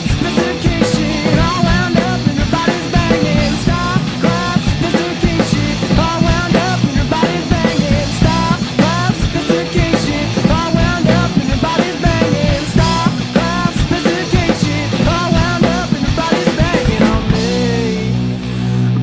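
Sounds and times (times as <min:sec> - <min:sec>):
pitch-bending lead line: 0:00.0 - 0:18.7
alternative rock band playing: 0:00.0 - 0:19.0.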